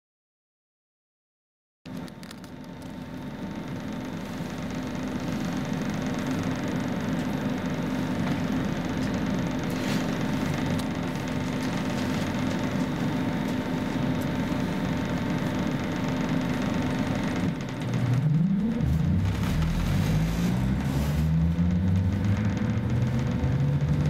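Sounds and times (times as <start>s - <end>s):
train equipment hum: 1.9s - 24.0s.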